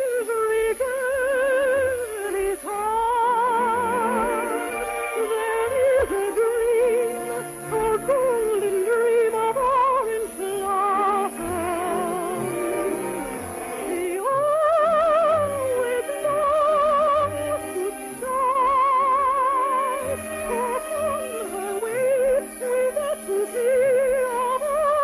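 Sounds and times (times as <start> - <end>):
soprano singing with vibrato: 0.0 - 25.0
orchestral accompaniment: 3.4 - 24.6.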